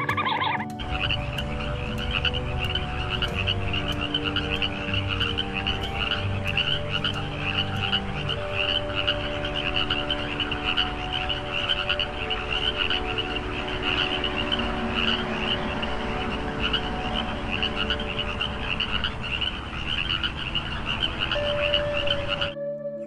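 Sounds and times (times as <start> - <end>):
frogs croaking: 0.0 - 22.9.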